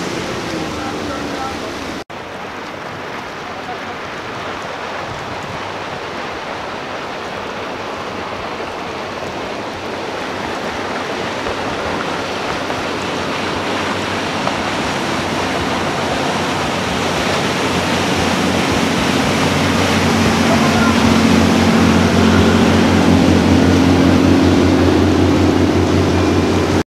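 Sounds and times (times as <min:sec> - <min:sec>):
low drone of boat engines: 0:00.0 - 0:26.8
hull spray and wake water rushing: 0:00.0 - 0:26.9.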